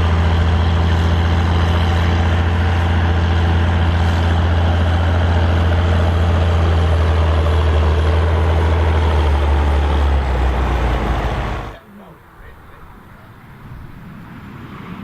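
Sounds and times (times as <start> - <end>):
tractor diesel engine running: 0.0 - 14.6.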